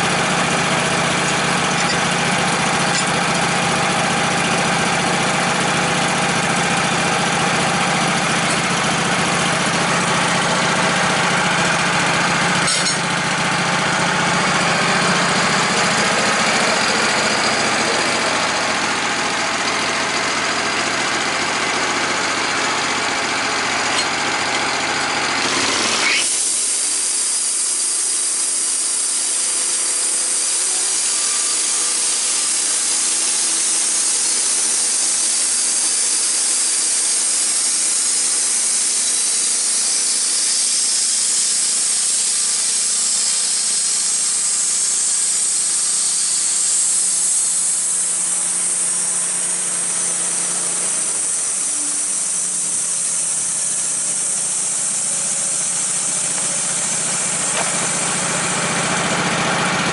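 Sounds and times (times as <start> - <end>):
faint engine running: 0.0 - 59.9
saw cutting wood: 0.0 - 59.9.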